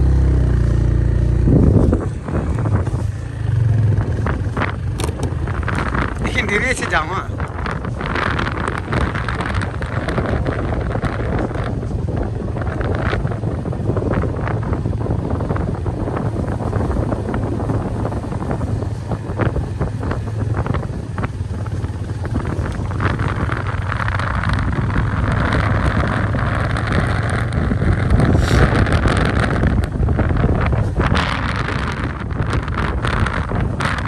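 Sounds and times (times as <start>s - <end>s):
motorcycle engine rumble: 0.0s - 34.0s
wind buffeting microphone: 0.0s - 34.0s.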